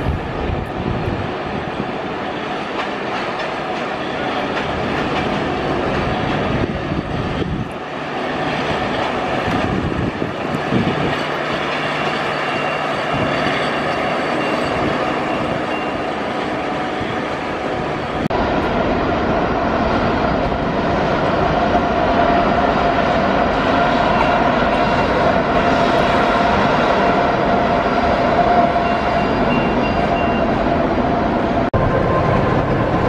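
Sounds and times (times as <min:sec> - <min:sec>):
rail clatter: 0:00.0 - 0:33.0
train rumbling on tracks: 0:00.0 - 0:33.0.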